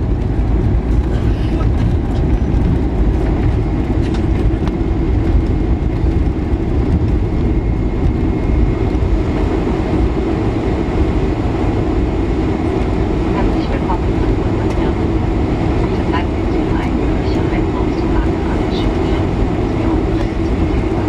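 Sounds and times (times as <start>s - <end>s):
jet engine noise: 0.0s - 21.0s
landing gear rumbling on runway: 0.0s - 21.0s.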